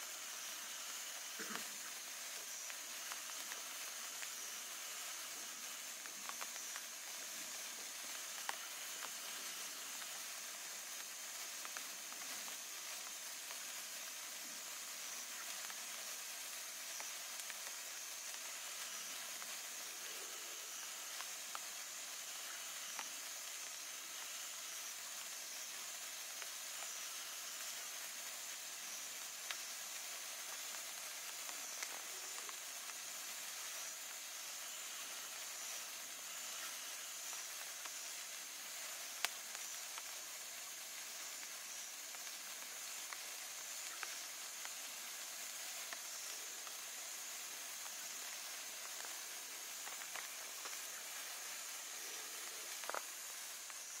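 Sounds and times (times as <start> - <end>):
sparkler hissing: 0.0 - 54.0
sparkler popping: 0.0 - 54.0.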